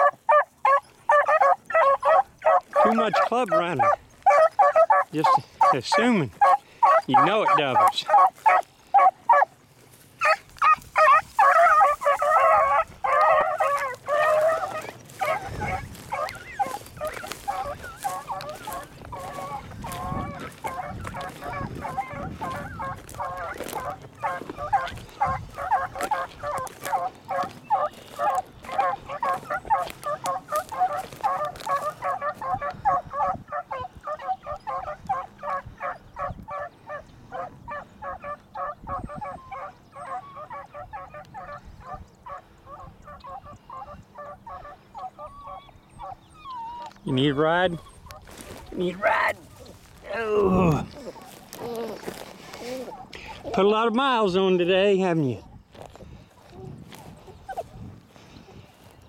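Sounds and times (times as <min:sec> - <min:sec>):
dogs baying: 0:00.0 - 0:09.6, 0:10.2 - 0:53.6, 0:56.4 - 0:58.6.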